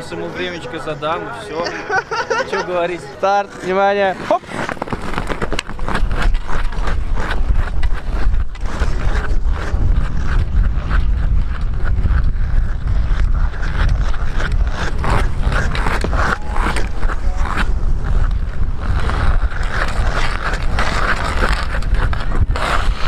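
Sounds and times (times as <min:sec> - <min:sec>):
skate blades scraping ice: 0:02.1 - 0:23.0.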